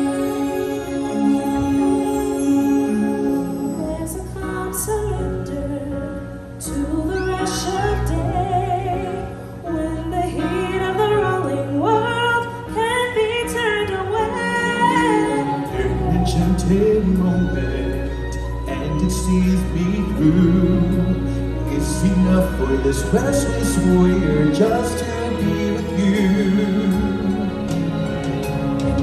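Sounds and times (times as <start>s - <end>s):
orchestral backing: 0.0s - 29.0s.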